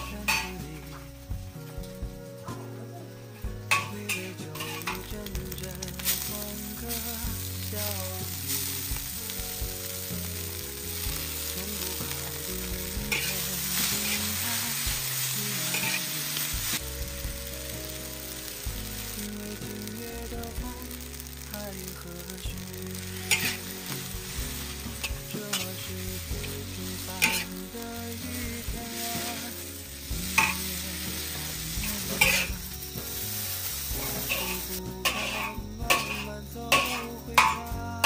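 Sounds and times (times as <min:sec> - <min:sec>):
noodles sizzling in a pan: 0:00.0 - 0:38.0.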